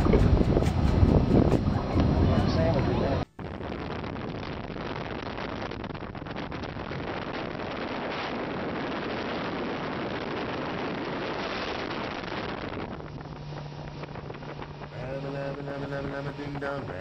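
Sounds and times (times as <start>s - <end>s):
motorboat engine: 0.0s - 17.0s
wind on microphone: 0.0s - 17.0s.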